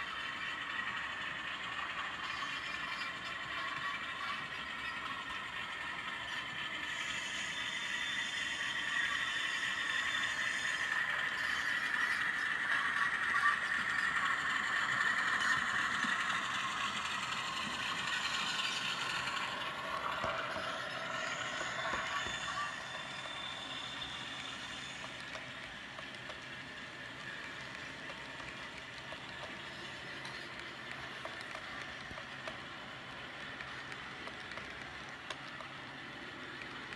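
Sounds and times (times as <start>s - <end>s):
model train whirring and clattering: 0.0s - 36.9s.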